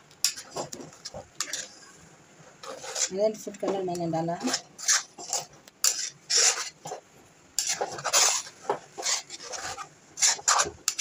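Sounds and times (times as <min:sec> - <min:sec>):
spatula scraping metal pan: 0:00.2 - 0:02.0, 0:02.6 - 0:07.0, 0:07.6 - 0:11.0.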